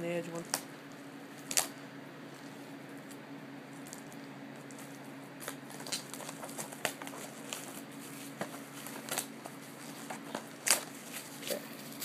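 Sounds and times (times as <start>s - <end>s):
steady low hum: 0.0s - 12.0s
plastic wrapping crinkling: 0.3s - 12.0s.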